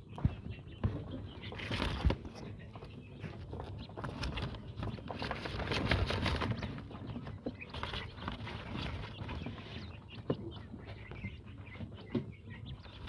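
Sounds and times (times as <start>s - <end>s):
small birds tapping and rustling: 0.0s - 13.0s.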